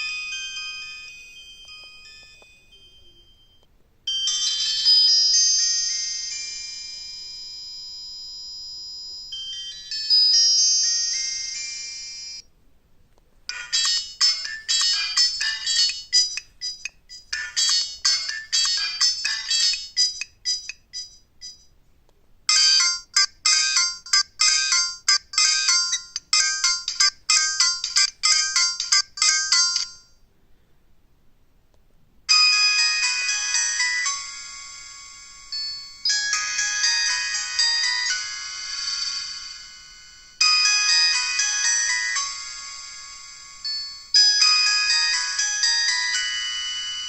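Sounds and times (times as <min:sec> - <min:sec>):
phone ringtone melody: 0:00.0 - 0:12.5, 0:13.5 - 0:21.7, 0:22.5 - 0:30.2, 0:32.3 - 0:47.0.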